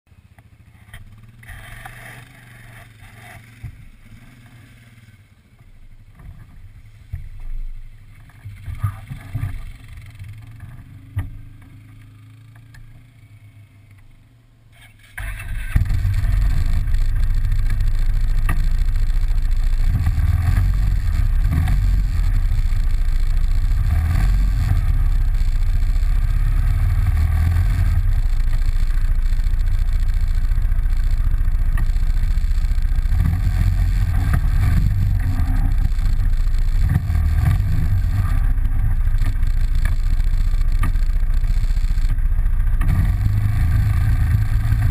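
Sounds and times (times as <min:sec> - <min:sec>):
atv engine rumbling: 0:00.1 - 0:44.9.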